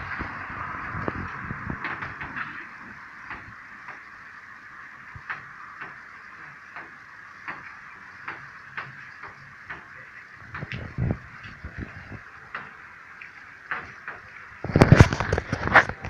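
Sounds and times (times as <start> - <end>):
light rain hiss: 0.0 - 16.0
raindrops tapping: 0.0 - 16.0.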